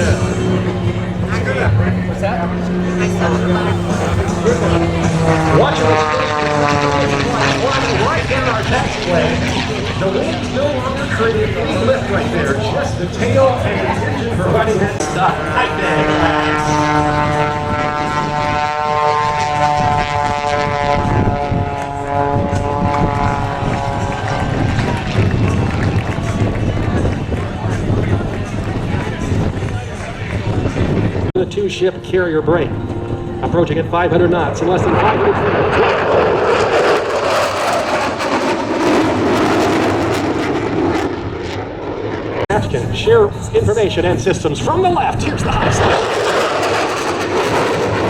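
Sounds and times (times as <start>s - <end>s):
jets passing low: 0.0s - 48.0s
propeller engine droning: 0.0s - 48.0s.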